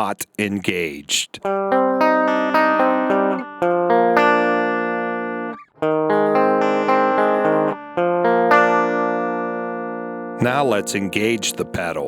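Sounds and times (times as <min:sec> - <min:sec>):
electric guitar chords: 0:01.4 - 0:12.0.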